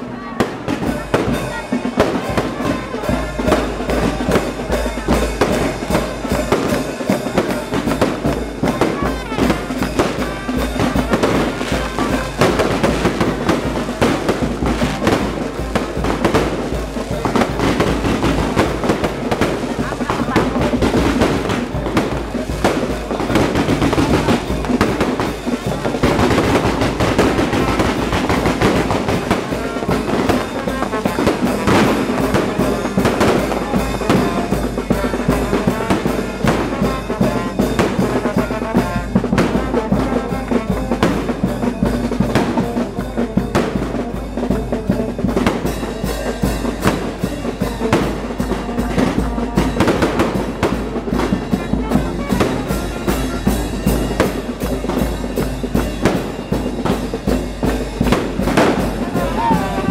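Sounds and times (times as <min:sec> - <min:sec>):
brass and drums music: 0:00.0 - 0:59.9
fireworks banging and crackling: 0:00.0 - 0:59.9.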